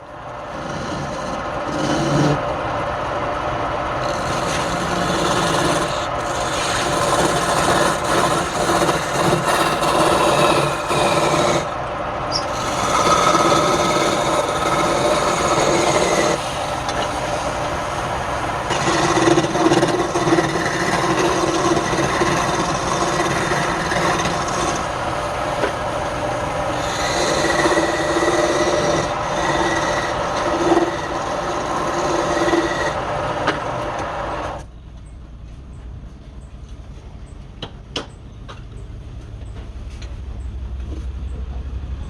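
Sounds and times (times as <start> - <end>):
wood rasping on a lathe: 0.0 - 34.6
lathe motor humming: 0.0 - 34.7.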